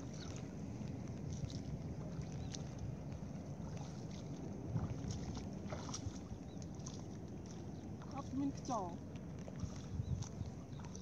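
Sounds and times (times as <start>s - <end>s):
wind buffeting the microphone: 0.0s - 6.6s, 7.4s - 11.0s
footsteps splashing in shallow water: 0.0s - 11.0s.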